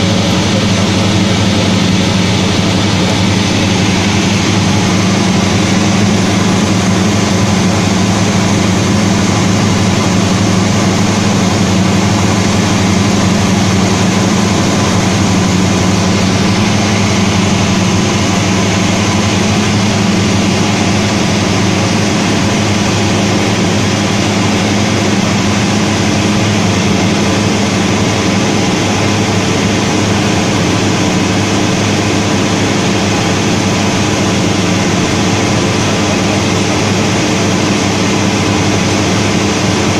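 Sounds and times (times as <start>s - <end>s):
air hissing over airframe: 0.0s - 39.9s
airplane engine and propeller in flight: 0.0s - 39.9s.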